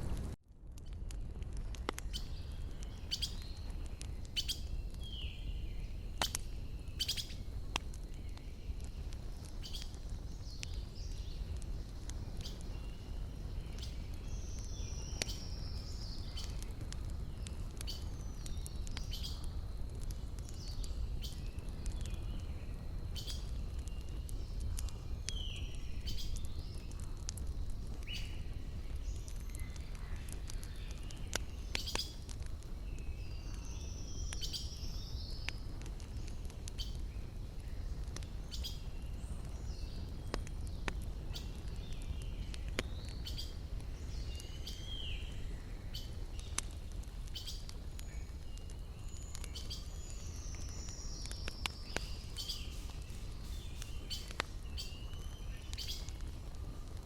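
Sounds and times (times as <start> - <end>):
campfire crackling and popping: 0.0 - 57.0
small birds chirping: 1.5 - 57.0.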